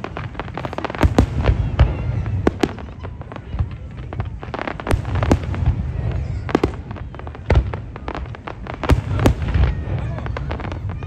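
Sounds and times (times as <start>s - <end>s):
fireworks crackle and rumble: 0.0s - 11.0s.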